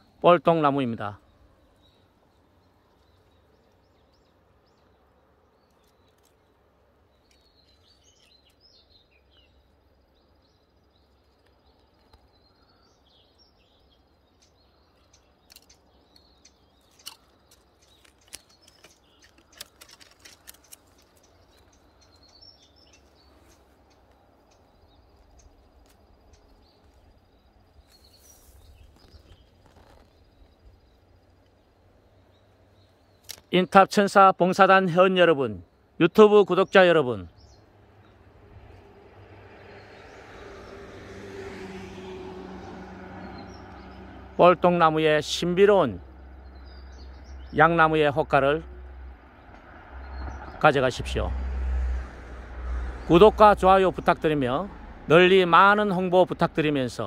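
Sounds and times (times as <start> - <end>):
distant bird chirps: 0.0 - 57.0.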